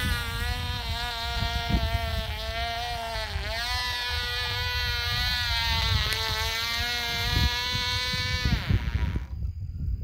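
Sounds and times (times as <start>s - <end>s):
model plane engine buzzing: 0.0s - 9.4s.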